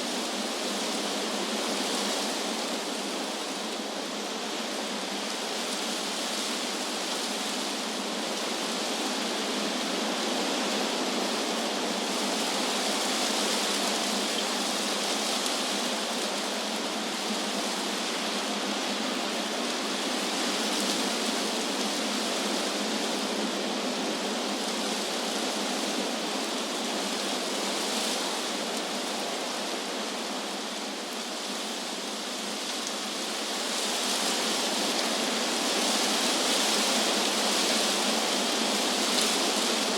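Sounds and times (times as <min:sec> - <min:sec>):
wind rustling leaves: 0:00.0 - 0:39.9.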